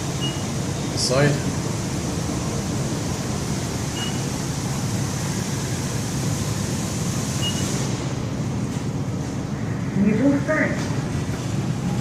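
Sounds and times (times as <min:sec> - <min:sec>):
elevator running rumble: 0:00.0 - 0:12.0.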